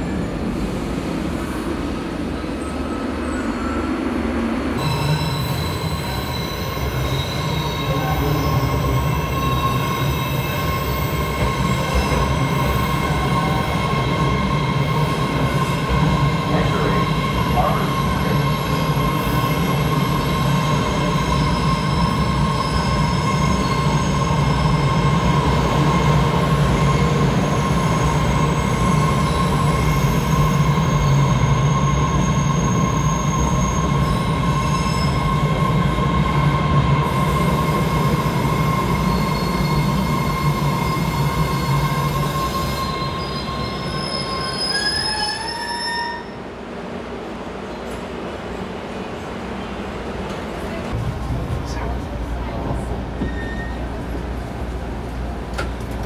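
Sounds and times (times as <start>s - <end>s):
high squeal from train wheels: 0.0s - 46.5s, 53.2s - 54.2s
subway train rumble: 0.0s - 56.0s.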